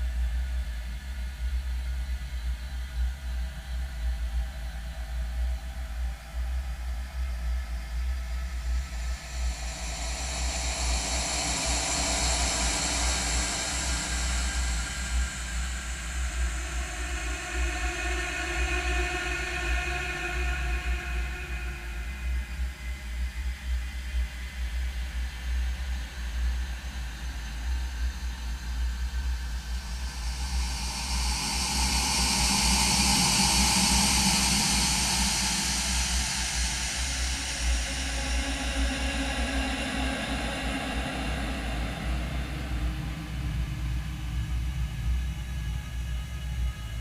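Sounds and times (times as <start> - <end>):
slowed hissing drone: 2.5 - 47.0.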